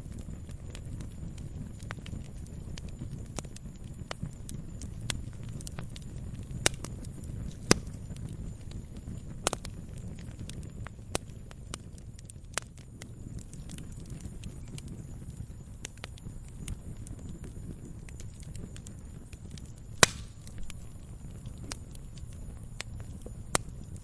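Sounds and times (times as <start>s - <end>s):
campfire crackles and pops: 0.0s - 24.0s
low rumble of flame: 0.0s - 24.0s.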